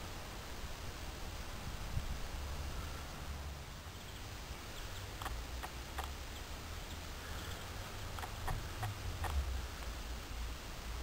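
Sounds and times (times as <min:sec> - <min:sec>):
low engine rumble: 0:01.7 - 0:11.0.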